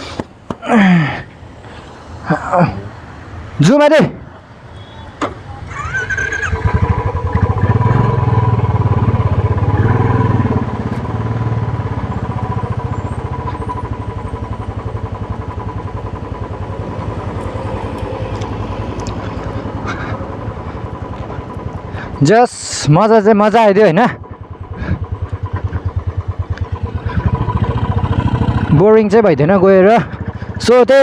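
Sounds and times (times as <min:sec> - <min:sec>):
motorcycle engine running: 0:05.6 - 0:31.0.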